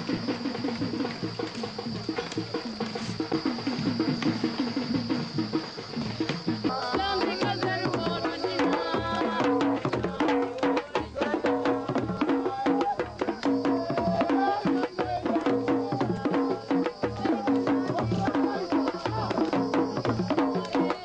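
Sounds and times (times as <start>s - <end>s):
hand drum strokes: 0.0s - 21.0s.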